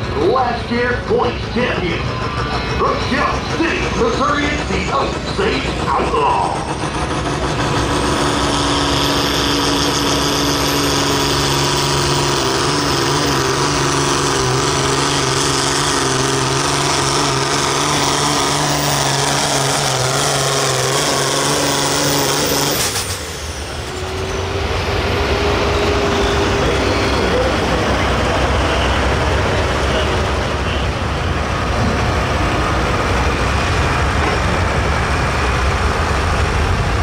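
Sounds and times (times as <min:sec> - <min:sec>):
engine whine: 0:00.0 - 0:37.0
tractor engine at full throttle: 0:00.0 - 0:37.0.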